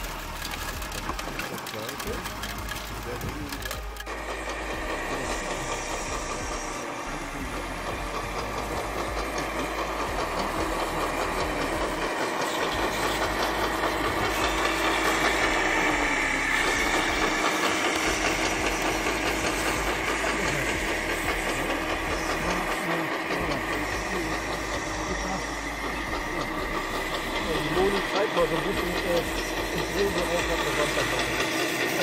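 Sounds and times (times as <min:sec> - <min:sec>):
engine running with fast pulsing: 0:00.0 - 0:32.0.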